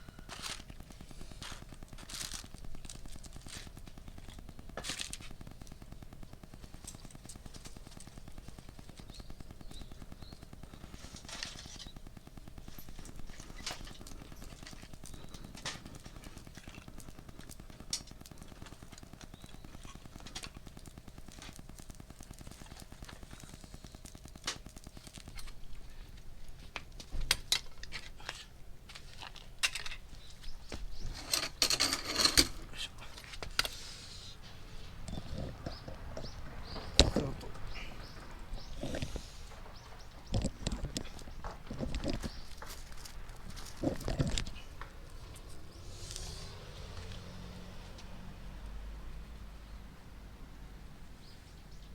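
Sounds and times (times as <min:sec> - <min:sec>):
wood fire crackling and popping: 0:00.0 - 0:48.8.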